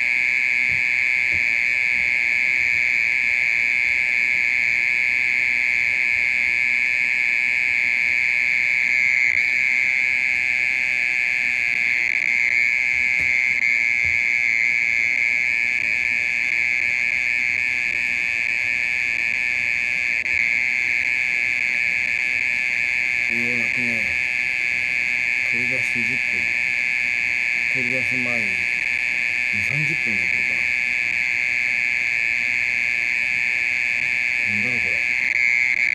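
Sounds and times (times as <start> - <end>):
mole cricket trilling: 0.0 - 35.9.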